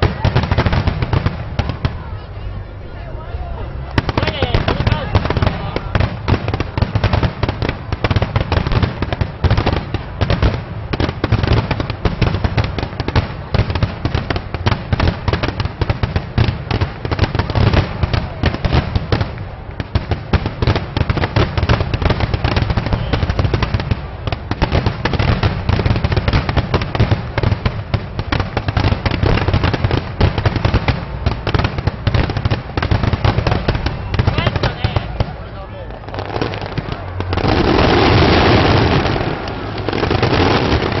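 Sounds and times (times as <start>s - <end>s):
fireworks crackling and popping: 0.0s - 2.4s, 3.6s - 41.0s.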